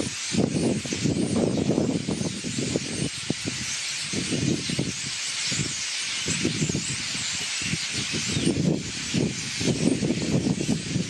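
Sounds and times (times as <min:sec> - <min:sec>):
flock of small birds chattering: 0:00.0 - 0:11.0
wind buffeting microphone: 0:00.0 - 0:11.0.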